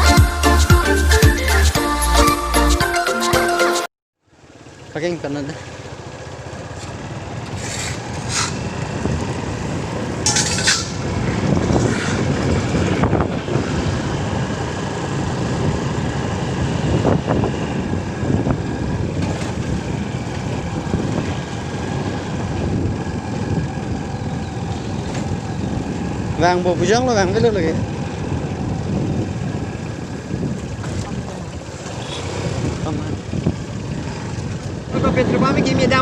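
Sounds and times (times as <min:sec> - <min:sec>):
vehicle engine and road rumble: 0:04.2 - 0:36.0.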